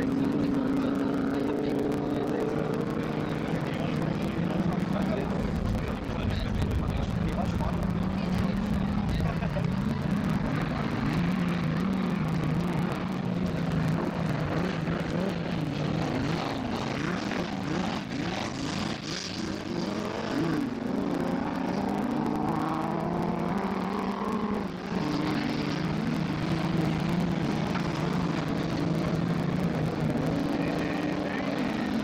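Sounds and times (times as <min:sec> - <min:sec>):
low engine drone: 0:00.0 - 0:32.0
race car engines revving: 0:00.0 - 0:32.0.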